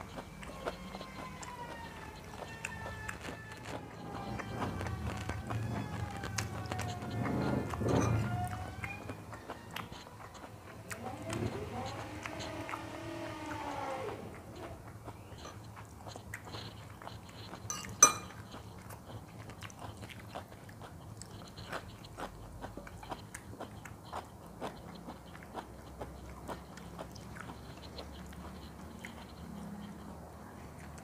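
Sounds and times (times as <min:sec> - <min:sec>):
person chewing crunchy food: 0:00.0 - 0:31.0.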